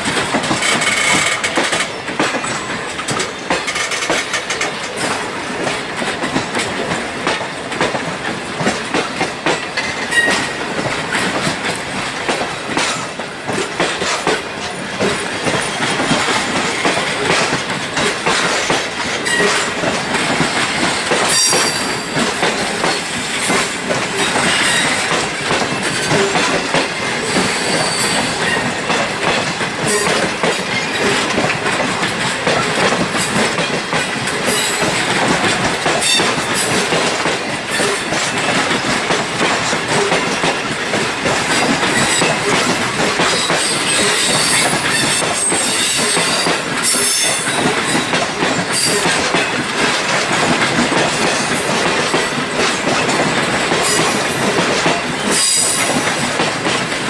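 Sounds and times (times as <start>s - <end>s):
train wheels rumbling clickety-clack: 0.0s - 57.0s.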